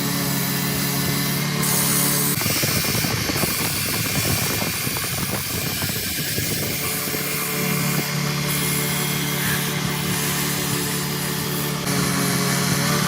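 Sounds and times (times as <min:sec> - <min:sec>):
power tool motor humming: 0:00.0 - 0:13.0.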